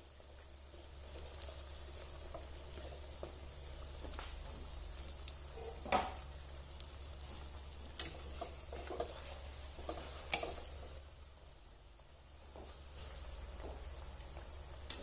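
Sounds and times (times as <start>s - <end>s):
bread frying in oil: 0.0s - 15.0s.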